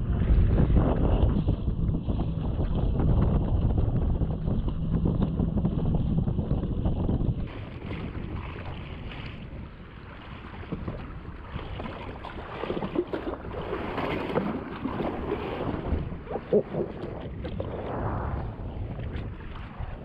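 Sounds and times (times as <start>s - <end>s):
wind buffeting microphone: 0.0s - 20.0s
sea water lapping: 1.4s - 20.0s.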